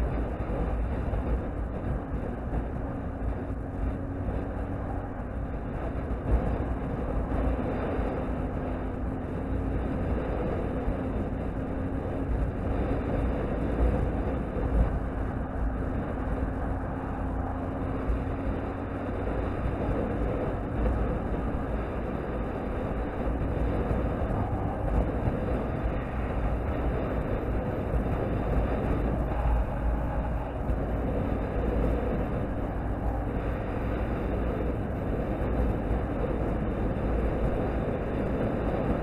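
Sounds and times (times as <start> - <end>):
motorcycle engine drone: 0.0 - 39.0
wind rushing over microphone: 0.0 - 39.0.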